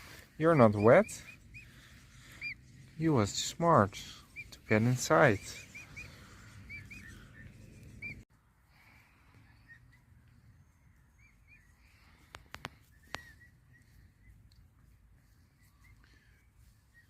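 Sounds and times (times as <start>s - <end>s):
chicks peeping: 0.1s - 8.2s, 9.4s - 16.0s.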